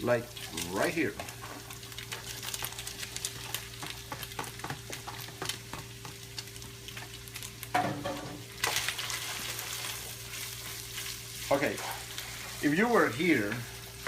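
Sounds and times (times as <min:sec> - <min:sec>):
meat and onion sizzling: 0:00.0 - 0:14.0
stirring in a pan: 0:00.2 - 0:07.7, 0:08.5 - 0:14.0.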